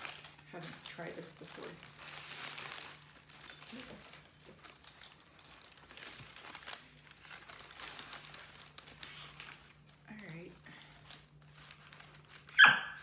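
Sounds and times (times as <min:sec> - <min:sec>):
paper wrapper crinkling: 0:00.0 - 0:13.0.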